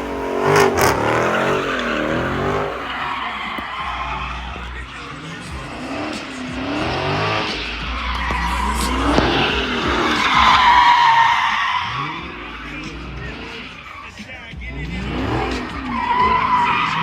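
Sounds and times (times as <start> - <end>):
car engine revving: 0.0 - 17.0
tyres squealing: 0.0 - 17.0.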